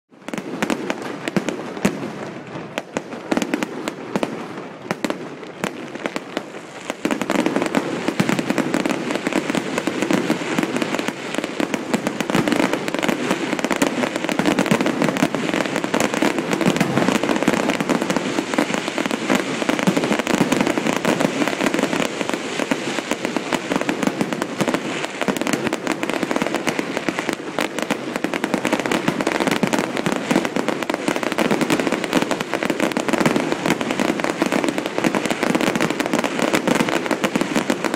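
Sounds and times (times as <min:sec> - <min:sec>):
fireworks bursts and crackle: 0:00.1 - 0:37.9.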